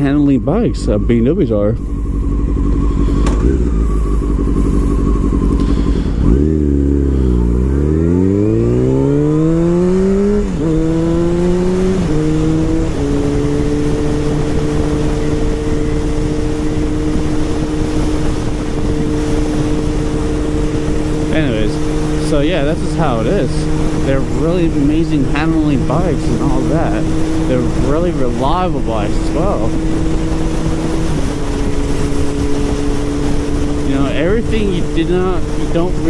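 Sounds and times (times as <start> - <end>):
gear upshifts: 0.0 - 36.0
motorcycle engine accelerating: 0.0 - 36.0.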